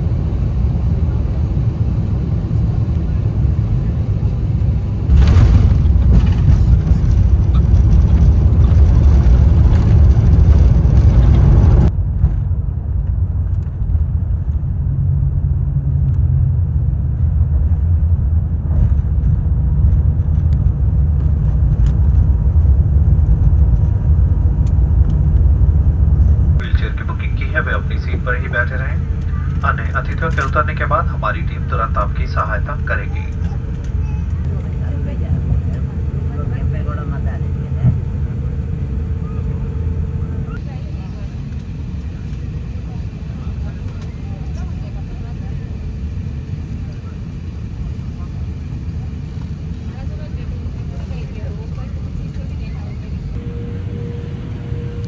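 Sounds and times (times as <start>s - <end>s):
aircraft cabin low rumble: 0.0s - 14.9s, 15.5s - 55.0s.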